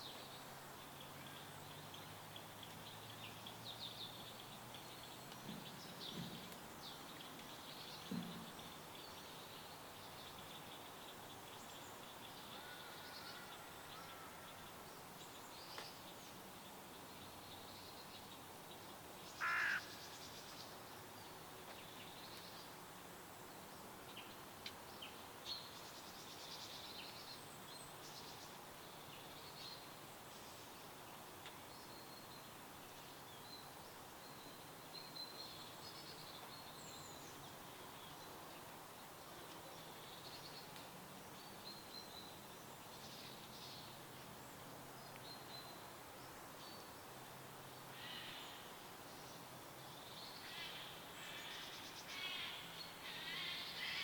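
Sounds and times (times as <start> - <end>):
background hiss: 0.0 - 54.0
wild birds chirping: 0.0 - 54.0.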